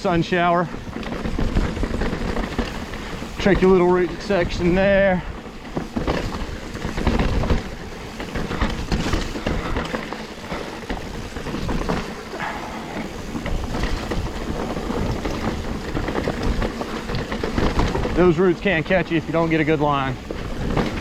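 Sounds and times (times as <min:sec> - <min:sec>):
bike chain and frame rattling: 0:00.0 - 0:21.0
bike tyres knocking over roots: 0:00.0 - 0:21.0
wind buffeting microphone: 0:00.0 - 0:21.0.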